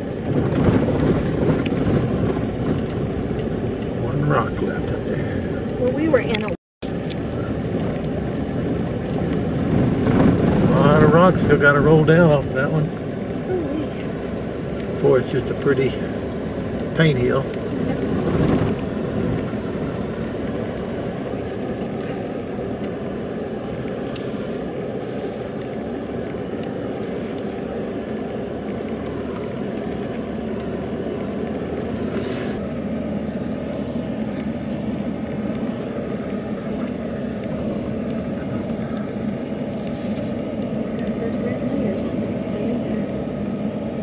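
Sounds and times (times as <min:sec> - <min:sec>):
truck driving on dirt road: 0:00.0 - 0:44.0.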